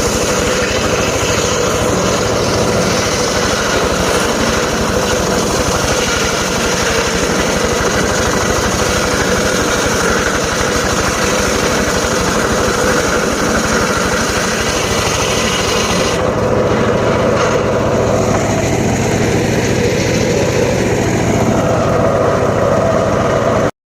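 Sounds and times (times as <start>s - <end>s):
circular saw engine running: 0.0s - 23.7s.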